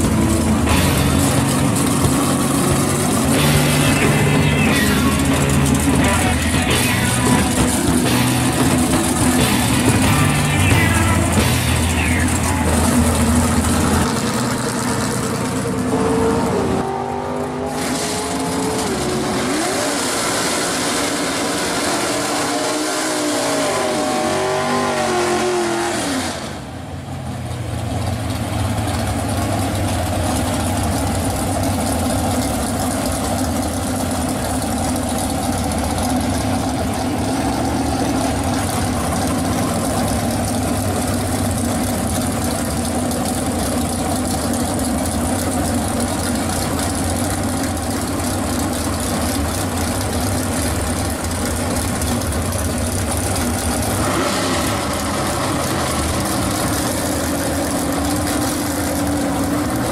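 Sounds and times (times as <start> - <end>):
muscle car engines revving: 0.0 - 59.9.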